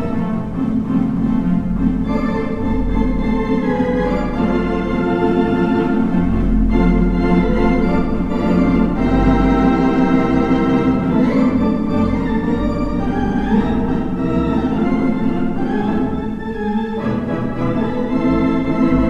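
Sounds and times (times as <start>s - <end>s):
organ chords: 0.0s - 19.0s.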